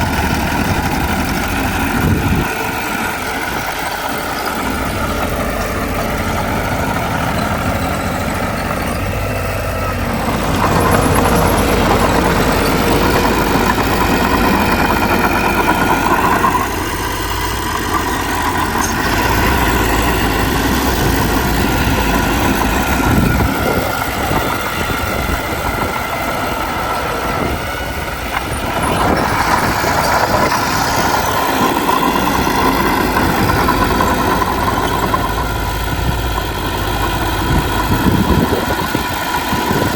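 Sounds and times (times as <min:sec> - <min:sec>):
heavy diesel machinery engine: 0:00.0 - 0:39.9.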